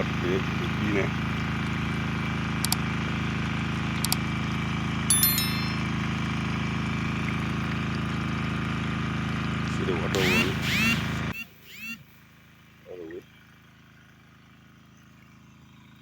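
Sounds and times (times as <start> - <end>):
engine running steadily: 0.0 - 4.8, 6.4 - 16.0.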